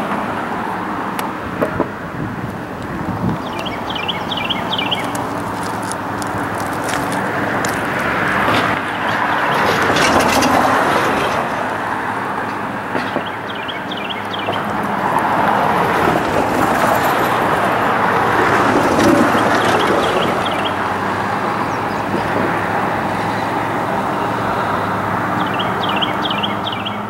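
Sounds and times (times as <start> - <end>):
train rolling: 0.0 - 25.5
locomotive diesel engine hum: 0.0 - 27.0.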